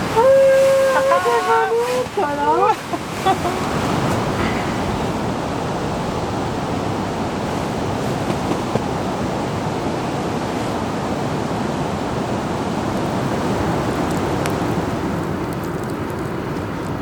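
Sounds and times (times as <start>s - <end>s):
river and waterfall rushing: 0.0s - 15.4s.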